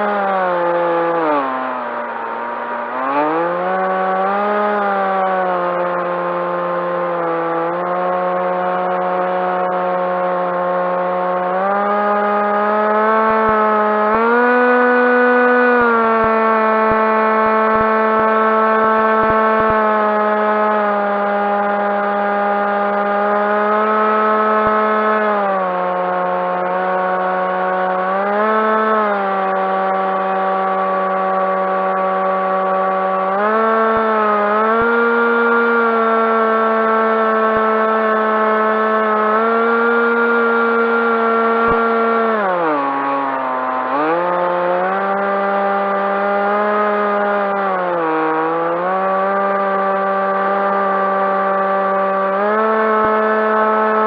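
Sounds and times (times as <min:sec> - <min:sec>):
model plane motor whining: 0:00.0 - 0:54.0.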